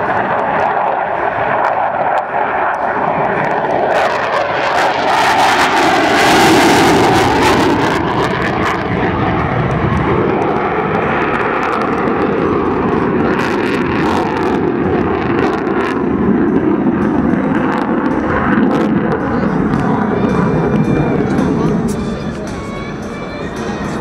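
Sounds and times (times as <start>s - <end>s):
fighter jet engine roar: 0.0s - 24.0s.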